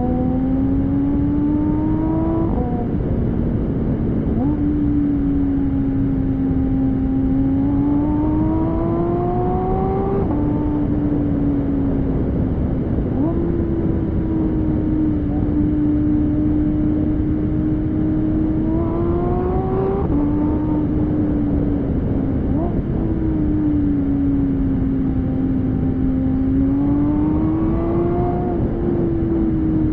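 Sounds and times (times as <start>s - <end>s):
car engine accelerating: 0.0s - 29.9s
road and wind noise: 0.0s - 29.9s.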